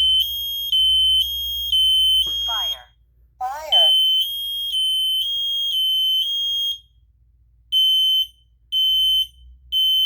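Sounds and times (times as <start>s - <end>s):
smoke alarm beeping: 0.0s - 7.0s, 7.7s - 10.0s.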